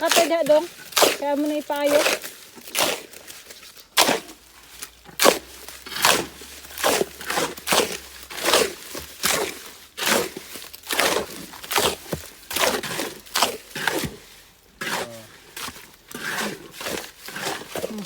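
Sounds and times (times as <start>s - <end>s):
footsteps crunching on rough ground: 0.0s - 18.0s.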